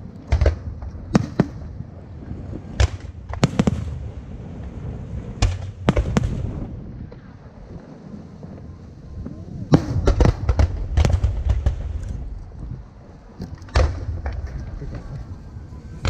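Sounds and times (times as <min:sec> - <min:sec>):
fireworks bursting with sharp bangs: 0:00.0 - 0:12.6, 0:13.3 - 0:16.0
low rumbling echo: 0:00.0 - 0:16.0.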